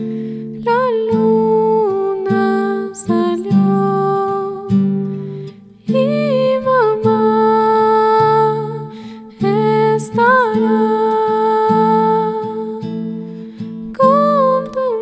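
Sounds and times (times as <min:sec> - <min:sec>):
fingerpicked classical guitar: 0:00.0 - 0:15.0
woman singing a lullaby: 0:00.6 - 0:05.1, 0:05.8 - 0:13.0, 0:13.9 - 0:15.0.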